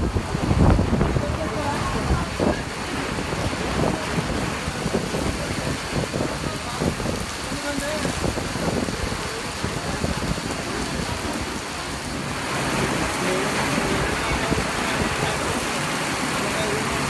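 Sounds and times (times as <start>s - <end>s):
gusting wind on microphone: 0.0s - 17.0s
heavy rain: 0.0s - 17.0s.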